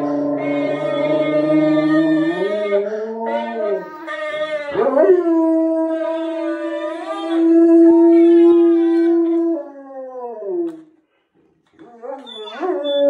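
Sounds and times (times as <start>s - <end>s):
dog howling: 0.0s - 10.8s, 11.8s - 13.0s.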